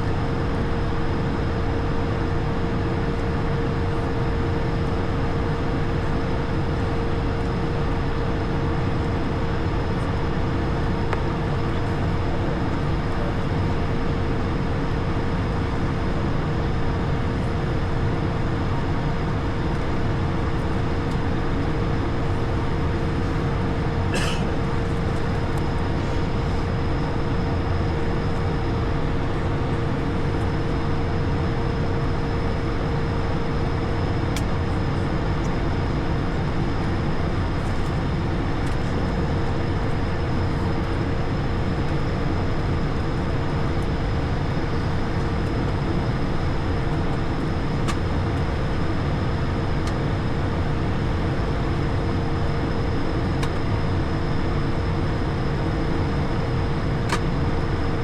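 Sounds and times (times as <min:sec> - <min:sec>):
aircraft engines humming: 0:00.0 - 0:58.0.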